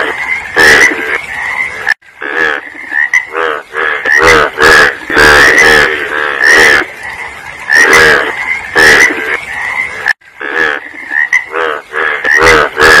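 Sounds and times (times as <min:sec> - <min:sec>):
frog croaking: 0:00.0 - 0:13.0.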